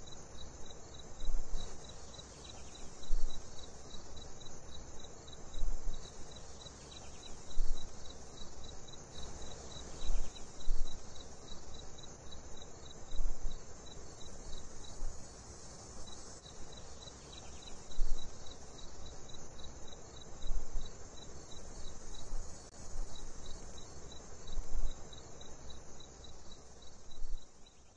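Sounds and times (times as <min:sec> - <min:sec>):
crickets chirping: 0:00.0 - 0:27.9
high insect buzz: 0:00.0 - 0:27.9.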